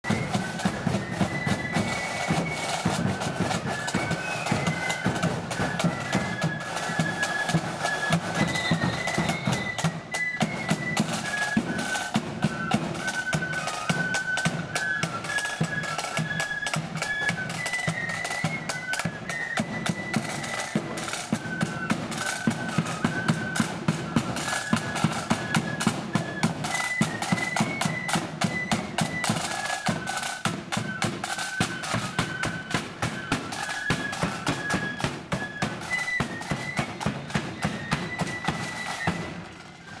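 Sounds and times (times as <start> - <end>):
flutes playing tune: 0.0 - 40.0.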